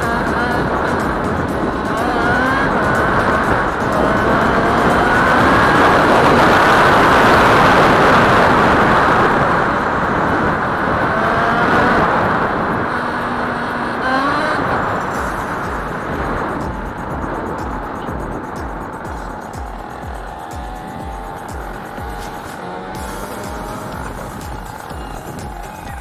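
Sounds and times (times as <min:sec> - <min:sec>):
heavy rushing noise: 0:00.0 - 0:26.0
two-stroke engine revving: 0:00.0 - 0:26.0.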